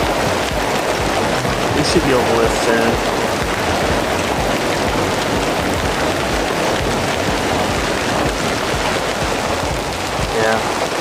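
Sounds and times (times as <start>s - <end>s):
heavy rain heard inside a car: 0.0s - 11.0s.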